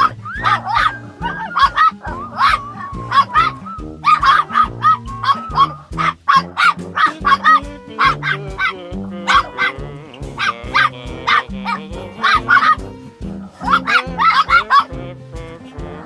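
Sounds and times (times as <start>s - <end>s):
bouncy plucked music with beat: 0.0s - 16.0s.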